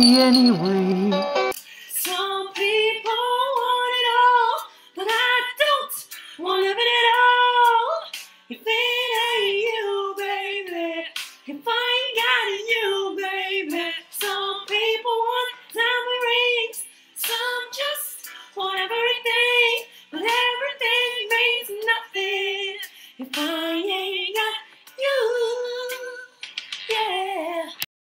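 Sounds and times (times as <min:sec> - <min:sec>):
woman singing: 0:00.0 - 0:01.2, 0:01.9 - 0:27.9.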